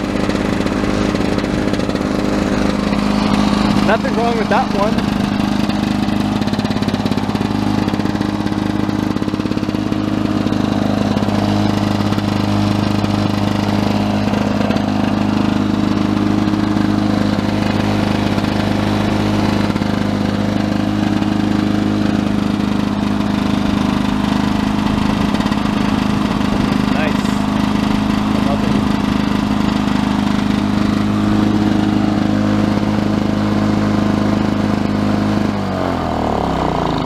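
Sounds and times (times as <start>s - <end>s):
lawn mower engine running: 0.0s - 37.0s.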